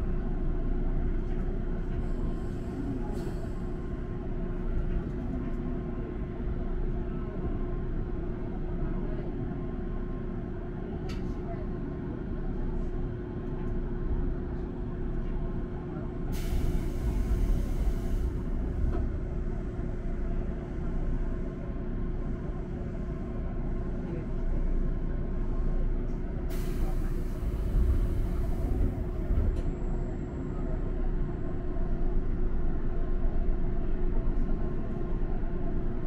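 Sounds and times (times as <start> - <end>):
train equipment rumble and hum: 0.0 - 36.0.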